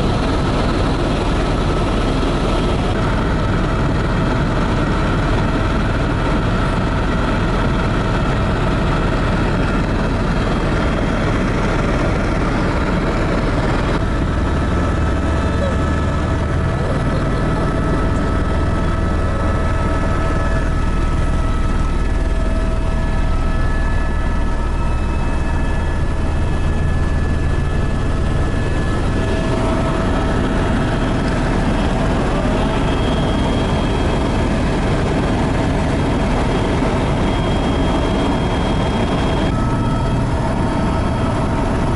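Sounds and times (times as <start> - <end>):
helicopter cabin drone: 0.0 - 41.9
steady whining tones: 0.0 - 41.9.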